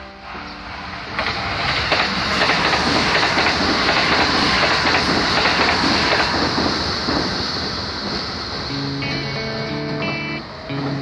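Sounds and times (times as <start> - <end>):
electric train passing at speed: 0.0 - 11.0
rail-joint clickety-clack: 1.1 - 11.0.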